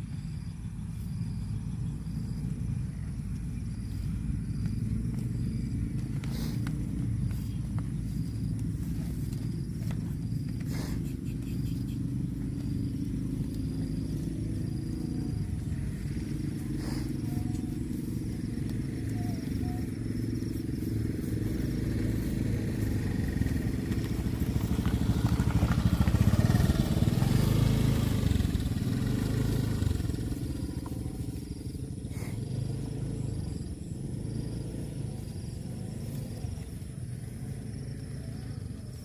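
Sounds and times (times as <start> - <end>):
low motor running: 0.0 - 39.0.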